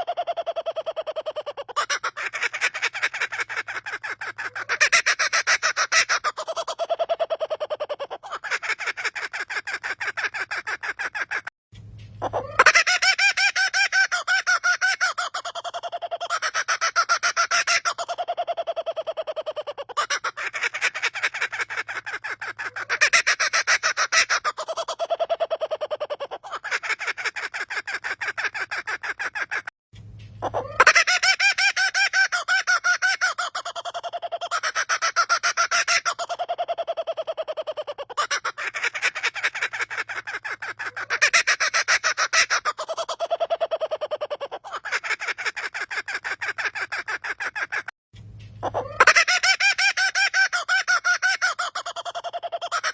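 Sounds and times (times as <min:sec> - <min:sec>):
bird laughing call: 0:00.0 - 0:11.5, 0:12.2 - 0:29.7, 0:30.4 - 0:47.9, 0:48.5 - 0:52.9.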